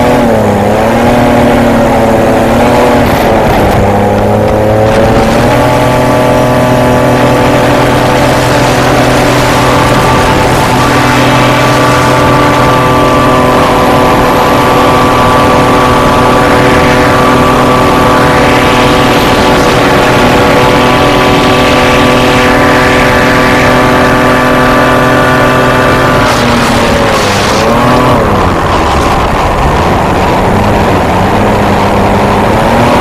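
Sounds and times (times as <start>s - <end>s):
hovercraft engine and propeller: 0.0s - 33.0s.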